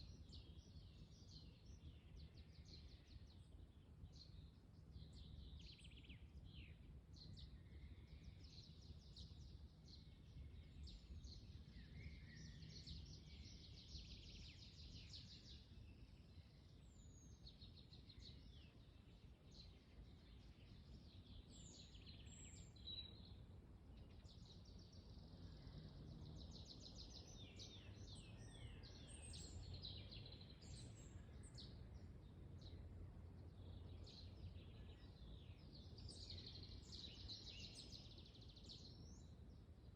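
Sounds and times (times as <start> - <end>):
low rumble of wind: 0.0 - 39.9
small birds chirping: 0.0 - 39.9.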